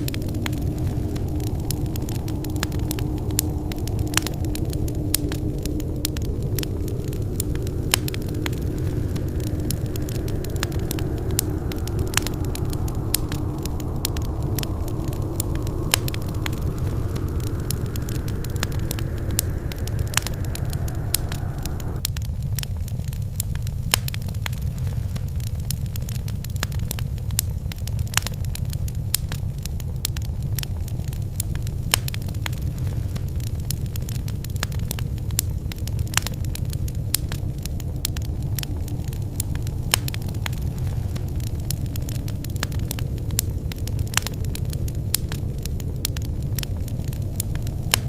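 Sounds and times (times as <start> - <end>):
soft hiss of fire: 0.0 - 48.0
wood fire crackling: 0.0 - 48.0.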